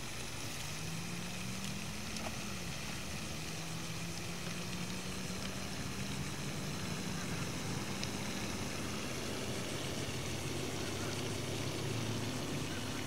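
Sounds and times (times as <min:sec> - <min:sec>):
low engine hum: 0:00.0 - 0:13.0
steady hiss: 0:00.0 - 0:13.0.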